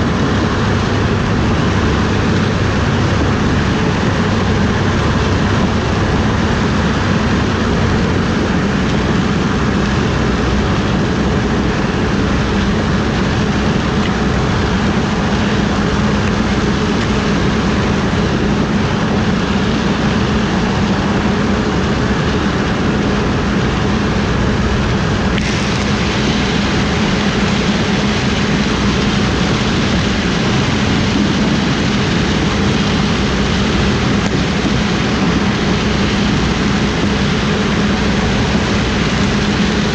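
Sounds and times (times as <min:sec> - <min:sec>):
diesel machinery engine hum: 0:00.0 - 0:39.9.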